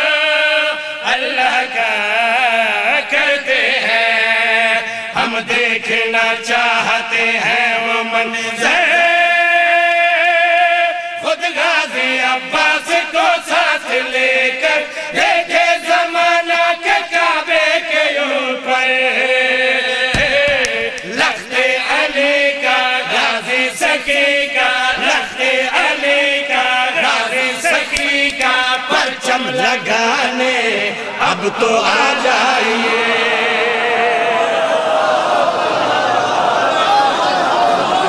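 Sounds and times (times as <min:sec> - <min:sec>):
men chanting together: 0:00.0 - 0:38.0.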